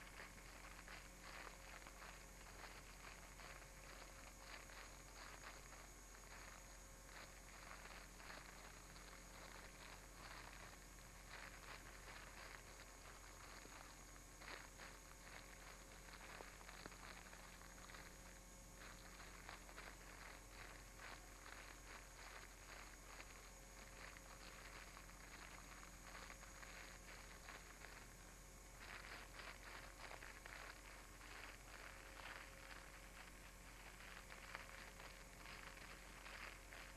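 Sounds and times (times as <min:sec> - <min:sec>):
camcorder hiss and hum: 0:00.0 - 0:36.9
soft crackling: 0:00.0 - 0:36.9.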